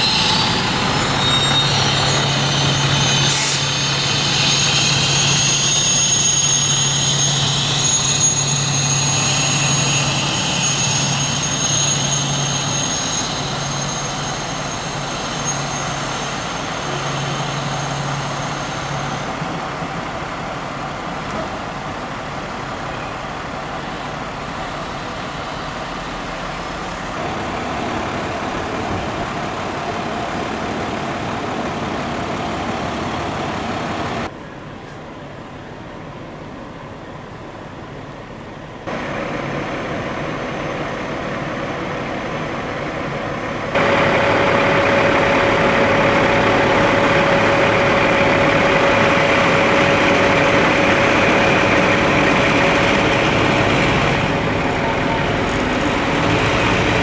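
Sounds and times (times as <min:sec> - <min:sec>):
diesel engines idling: 0:11.0 - 0:57.0.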